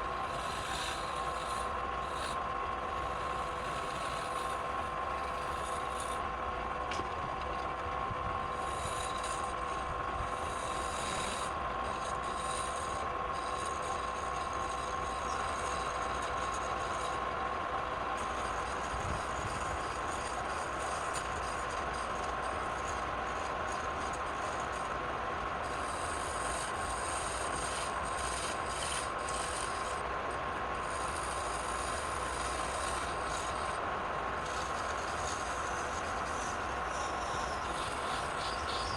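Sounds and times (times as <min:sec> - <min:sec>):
wood lathe whining: 0:00.0 - 0:38.9
turning tool scraping wood: 0:00.1 - 0:06.2, 0:08.4 - 0:17.5, 0:18.2 - 0:24.9, 0:25.6 - 0:33.8, 0:34.4 - 0:38.9.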